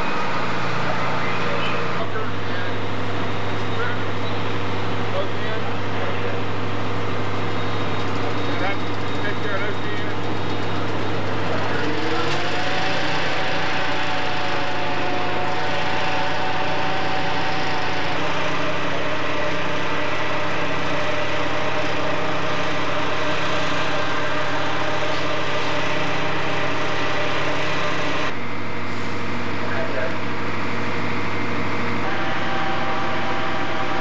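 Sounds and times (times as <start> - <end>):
engine running loudly: 0.0 - 34.0.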